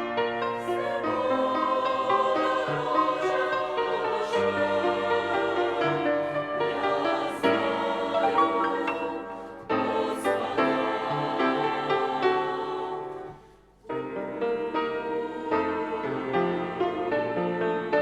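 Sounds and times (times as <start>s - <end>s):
choir singing a hymn: 0.0s - 18.0s.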